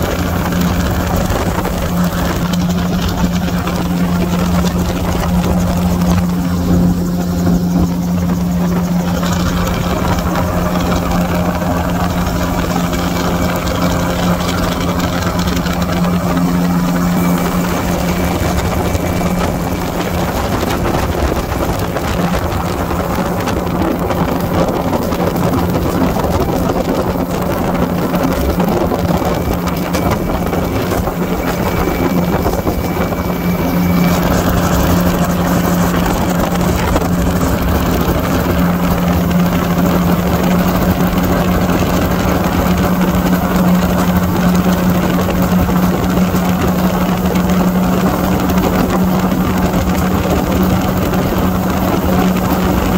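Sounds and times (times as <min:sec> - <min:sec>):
light aircraft engine and propeller: 0:00.0 - 0:52.9
wind rush: 0:00.0 - 0:52.9.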